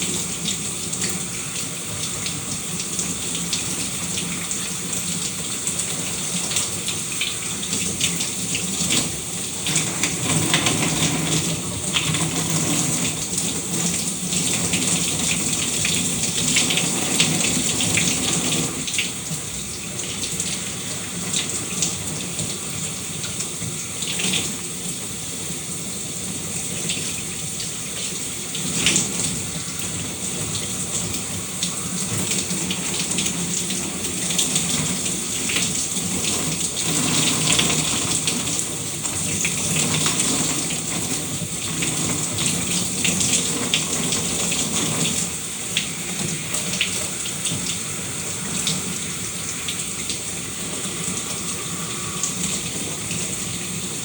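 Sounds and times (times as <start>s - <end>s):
shower spray splashing: 0.0s - 54.0s.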